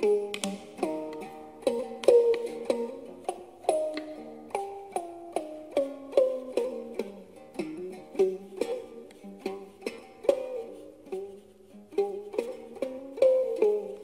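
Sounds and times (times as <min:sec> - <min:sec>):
plucked stick zither melody: 0:00.0 - 0:14.0.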